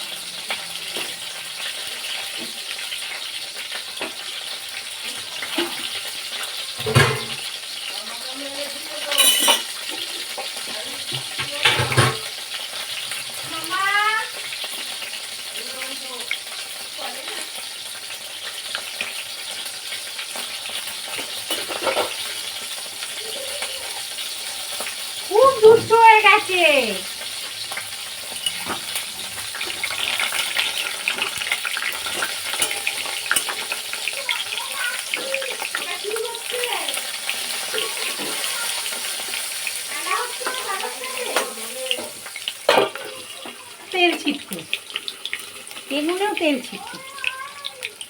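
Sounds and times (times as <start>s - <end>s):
food sizzling in hot oil: 0.0s - 48.0s.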